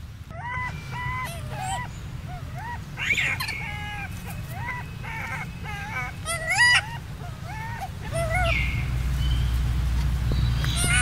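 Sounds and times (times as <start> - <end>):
infant monkey calling: 0.3 - 9.0, 10.6 - 11.0.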